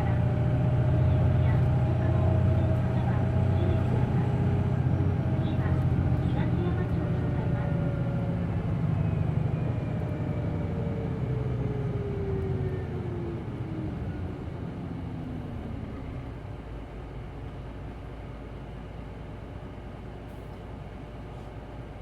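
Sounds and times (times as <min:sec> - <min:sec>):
bus engine slowing down: 0:00.0 - 0:22.0.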